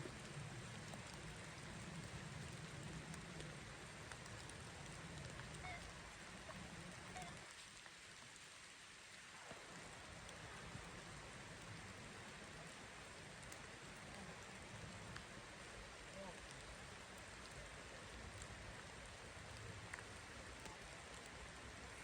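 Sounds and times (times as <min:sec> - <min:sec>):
raindrop ticks: 0:00.0 - 0:22.0
steady rain hiss: 0:00.0 - 0:22.0.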